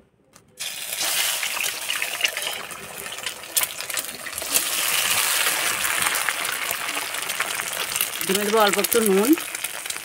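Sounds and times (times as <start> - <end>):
eggs sizzling in hot oil: 0.6 - 10.0.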